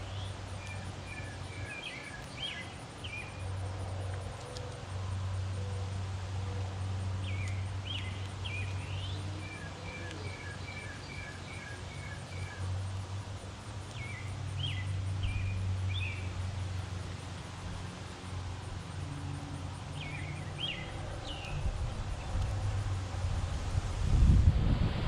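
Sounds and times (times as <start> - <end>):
songbirds chirping: 0.0 - 23.0
steady low hum: 0.0 - 25.0.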